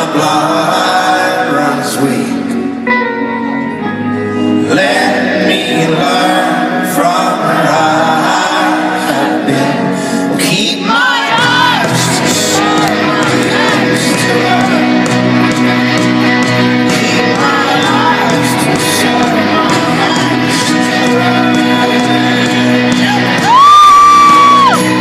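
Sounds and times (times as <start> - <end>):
man singing: 0.0 - 2.8, 4.5 - 15.6, 16.6 - 25.0
electric guitar: 0.0 - 25.0.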